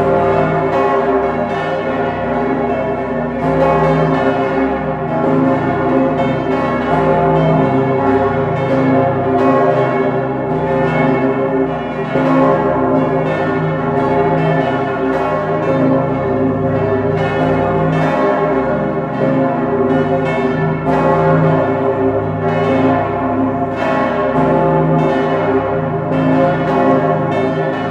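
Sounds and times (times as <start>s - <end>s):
swinging church bells pealing: 0.0s - 27.9s.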